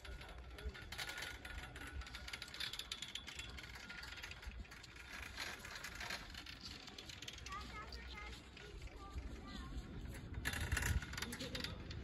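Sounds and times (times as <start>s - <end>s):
chairlift rope mechanical rattle: 0.0s - 12.0s.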